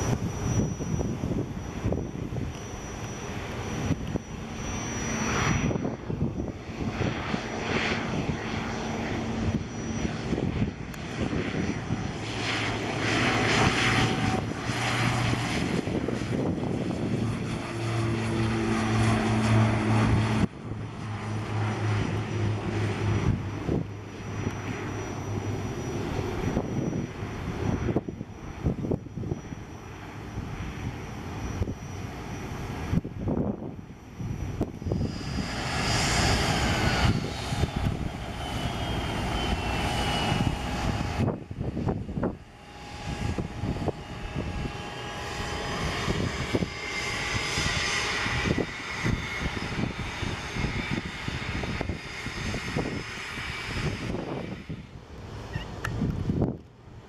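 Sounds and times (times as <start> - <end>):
turboprop plane taking off: 0.0 - 57.0.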